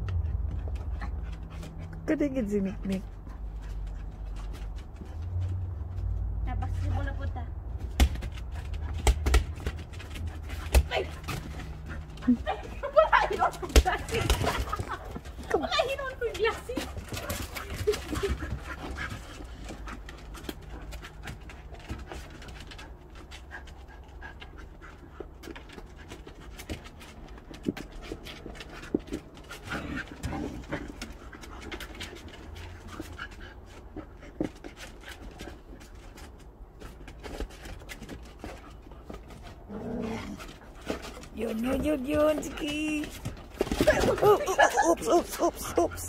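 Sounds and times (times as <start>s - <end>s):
dogs panting: 0.0s - 46.0s
clicks and scuffs on wooden decking: 2.7s - 45.7s.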